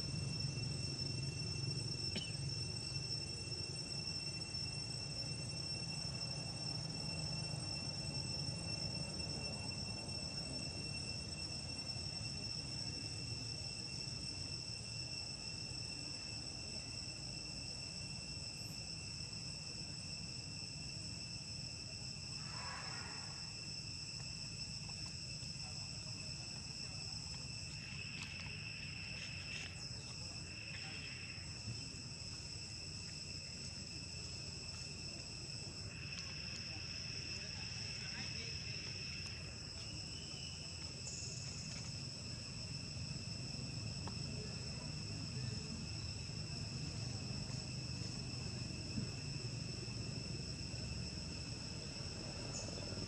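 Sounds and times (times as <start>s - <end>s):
insects chorus: 0.0s - 53.0s.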